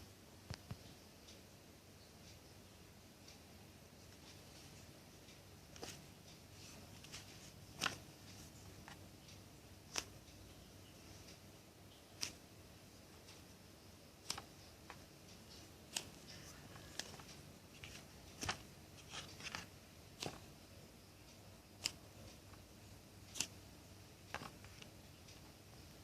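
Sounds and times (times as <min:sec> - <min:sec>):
room hiss: 0:00.0 - 0:26.0.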